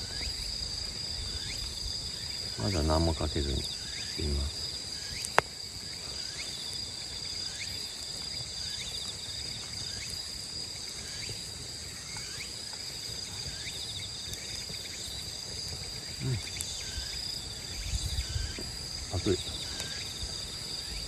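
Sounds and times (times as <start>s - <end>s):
crickets and insects trilling: 0.0s - 21.0s
short insect chirps: 0.0s - 21.0s.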